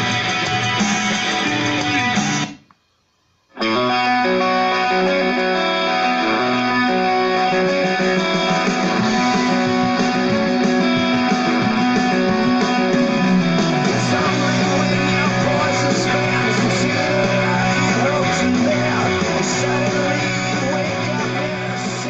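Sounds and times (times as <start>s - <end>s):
guitar song through small speaker: 0.0s - 2.8s, 3.5s - 22.0s.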